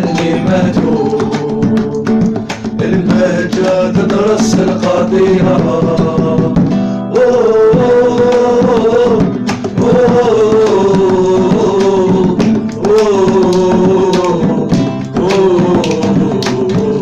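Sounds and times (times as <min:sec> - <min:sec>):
hand-drum percussion: 0:00.0 - 0:17.0.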